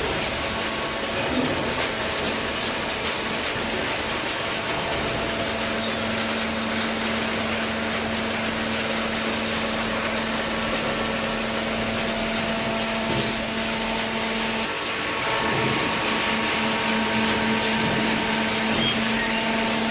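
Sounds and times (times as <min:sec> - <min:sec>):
hydraulic baler running: 0:00.0 - 0:19.9.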